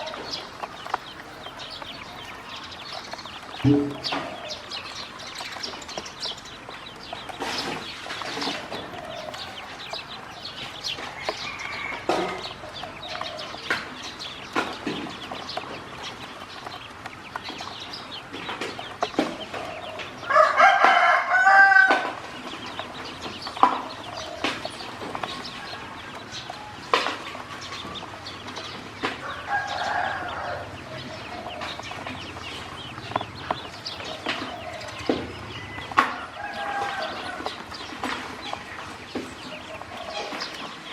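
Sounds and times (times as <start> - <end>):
farmyard fowl calling: 0.0 - 40.9.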